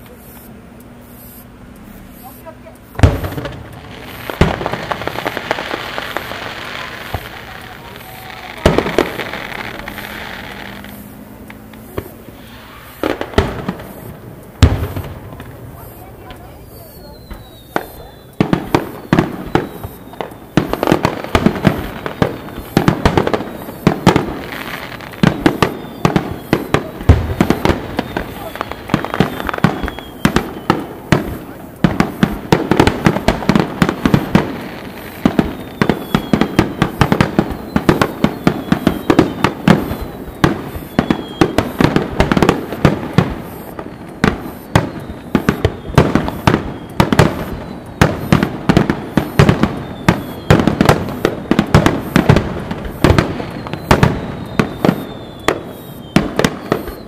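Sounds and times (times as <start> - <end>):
firework shells bursting: 0.0 - 57.0
faint falling whistles: 0.1 - 15.2, 15.8 - 57.0.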